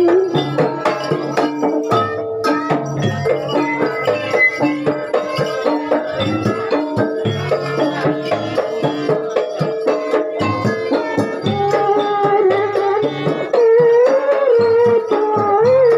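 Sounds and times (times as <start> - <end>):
traditional drums and gongs: 0.0 - 15.9.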